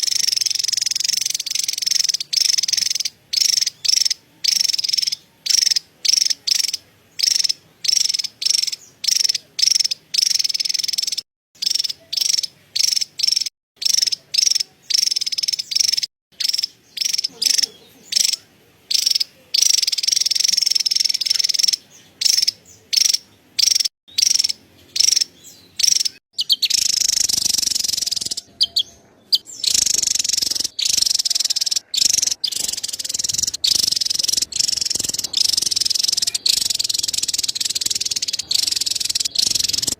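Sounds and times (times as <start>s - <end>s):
bird high-pitched chattering call: 0.0s - 39.9s.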